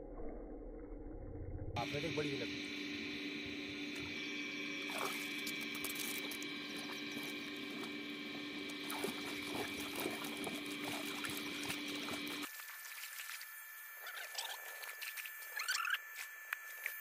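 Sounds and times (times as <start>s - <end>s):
steady background hum: 1.8s - 17.0s.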